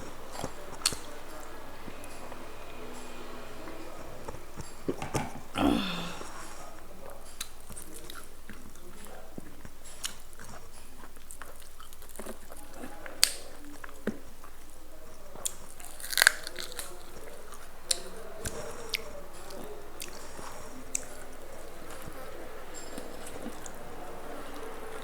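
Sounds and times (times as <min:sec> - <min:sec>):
steady low hiss: 0:00.0 - 0:25.0.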